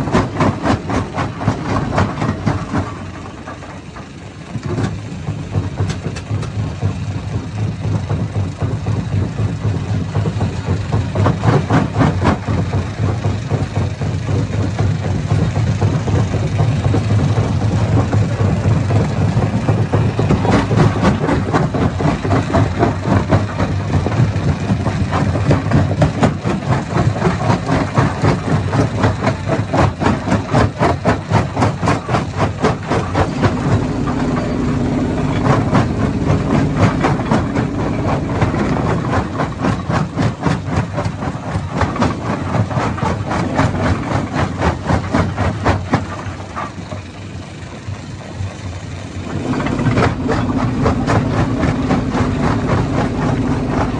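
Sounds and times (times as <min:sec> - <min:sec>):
rock crusher clatter: 0:00.0 - 0:48.6, 0:49.2 - 0:53.9
engine drone: 0:00.0 - 0:53.9.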